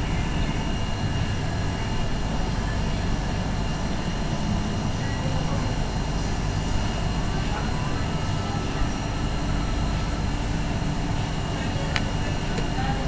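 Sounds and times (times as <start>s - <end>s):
store room rumble and hum: 0.0s - 13.0s.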